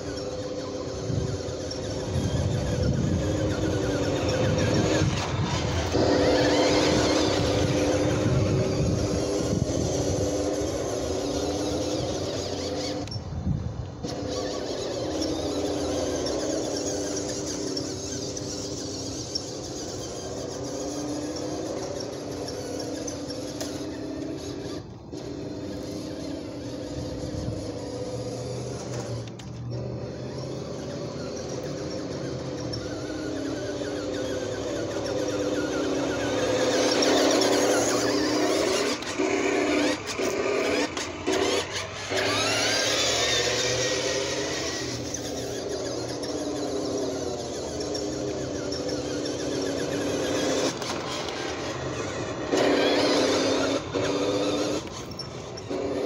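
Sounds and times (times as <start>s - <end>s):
electric motor and gearbox whining: 0.0s - 56.0s.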